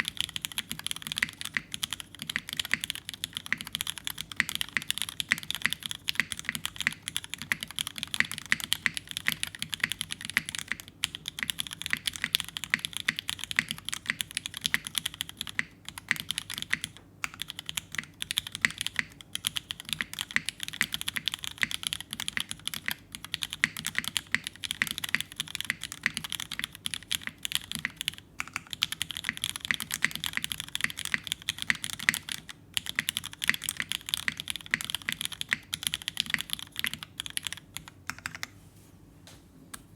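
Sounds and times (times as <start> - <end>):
fast typing on mechanical keyboard: 0.0 - 38.5.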